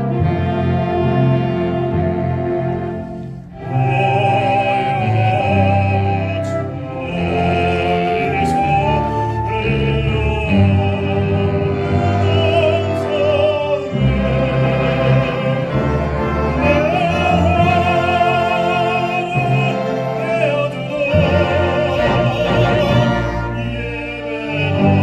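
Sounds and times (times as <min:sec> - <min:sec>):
instrumental accompaniment: 0:00.0 - 0:25.0
man singing opera: 0:03.6 - 0:25.0.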